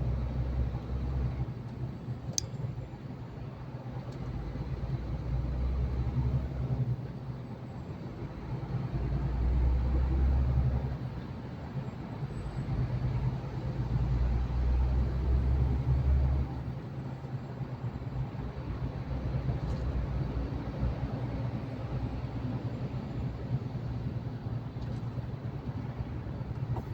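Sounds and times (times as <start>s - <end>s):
truck engine and road drone: 0.0s - 26.9s.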